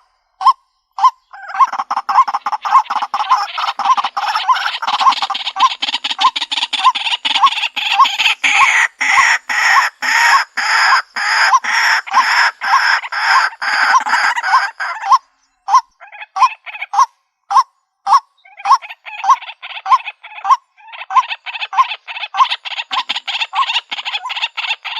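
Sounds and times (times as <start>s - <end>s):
waterhen harsh croaking calls: 0.0s - 24.9s.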